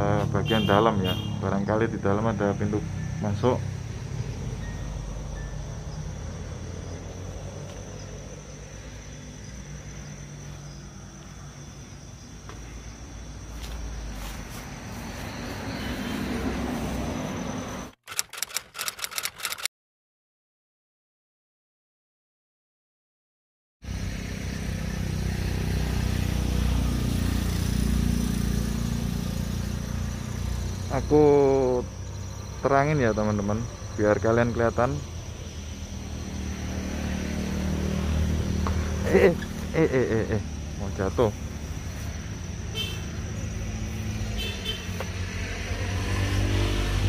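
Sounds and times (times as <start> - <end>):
crickets trilling: 0.0 - 19.6, 23.9 - 47.0.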